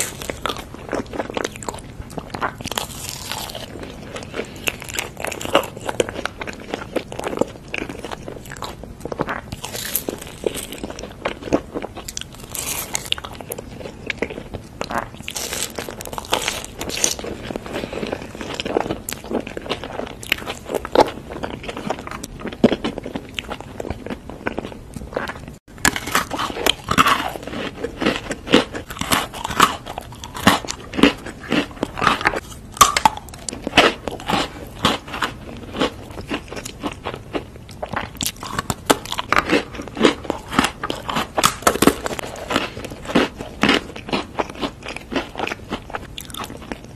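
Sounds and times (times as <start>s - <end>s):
crunching biscuit sticks: 0.0s - 46.9s.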